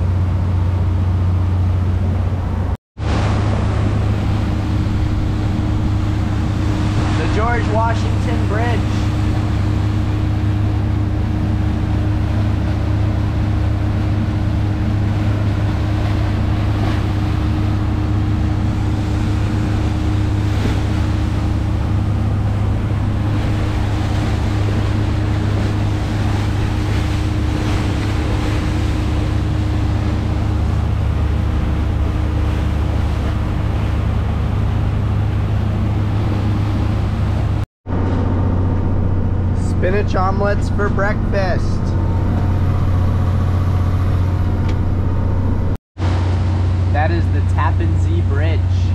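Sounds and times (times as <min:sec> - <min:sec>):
wind on microphone: 0:00.0 - 0:46.8
boat engine drone: 0:00.0 - 0:48.9
rushing wake water: 0:00.0 - 0:48.9.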